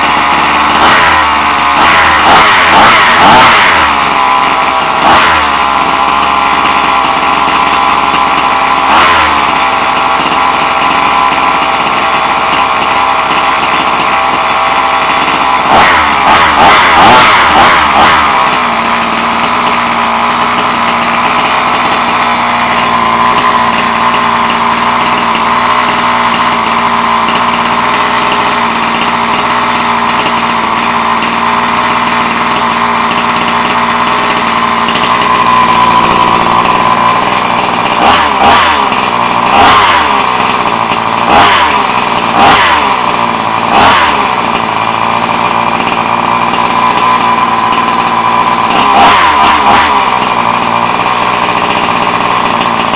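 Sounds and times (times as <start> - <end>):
two-stroke engine idling and revving: 0.0 - 52.9.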